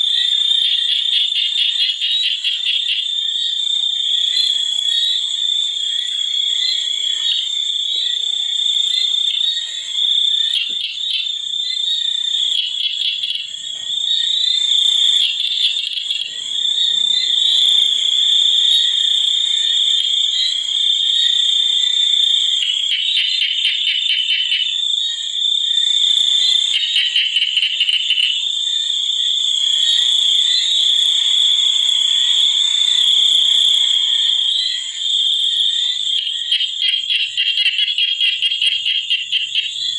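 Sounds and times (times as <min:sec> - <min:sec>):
frogs trilling: 0:00.0 - 0:39.9
high-pitched insect drone: 0:00.0 - 0:39.9.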